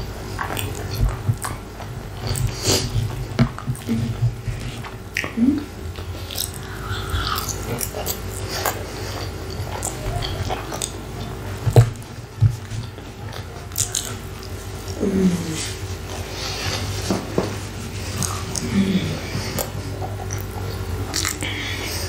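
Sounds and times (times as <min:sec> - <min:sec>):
chewing and wet mouth sounds: 0:00.0 - 0:22.0.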